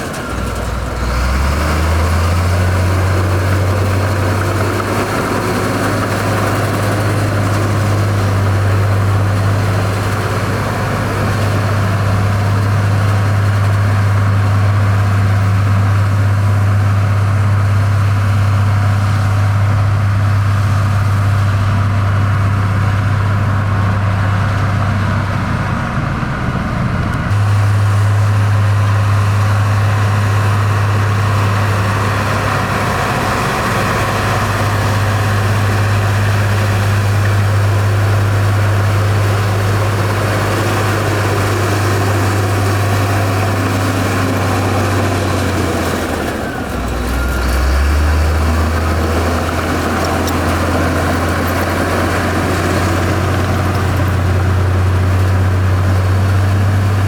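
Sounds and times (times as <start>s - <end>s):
heavy diesel engine humming: 0.0s - 57.0s.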